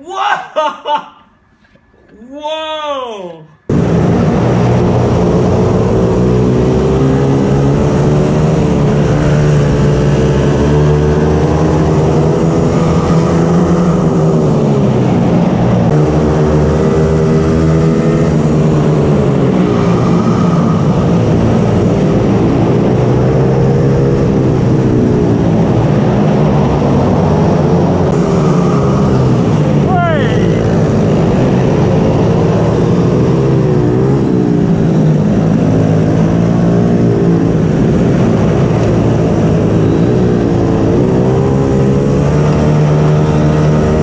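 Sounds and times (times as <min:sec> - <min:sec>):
mini bike engine revving: 0:03.7 - 0:26.2, 0:27.2 - 0:44.0.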